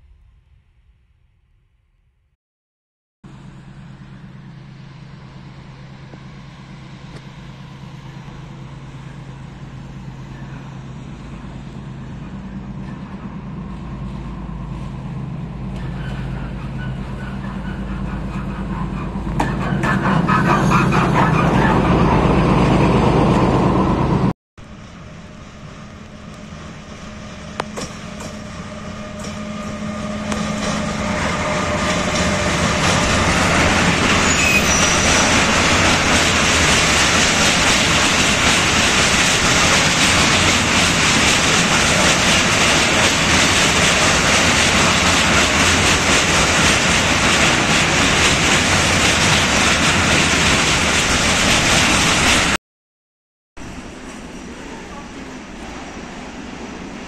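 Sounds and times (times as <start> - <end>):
diesel locomotive engine: 3.2 - 52.6, 53.6 - 57.0
freight train wheels on rails: 3.3 - 52.6.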